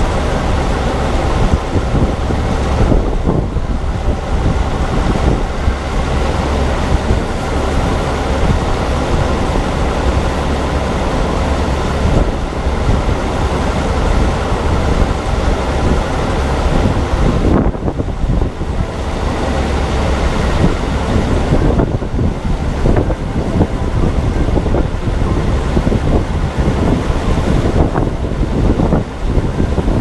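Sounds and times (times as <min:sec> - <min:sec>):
harvest machinery engine: 0:00.0 - 0:30.0
wind on microphone: 0:00.0 - 0:30.0.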